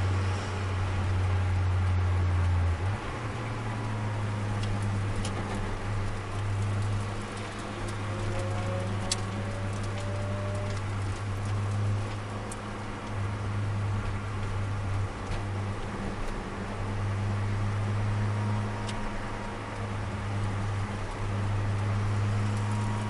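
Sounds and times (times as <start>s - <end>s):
car engine droning inside cabin: 0.0s - 23.0s
tyre and road noise: 0.0s - 23.0s.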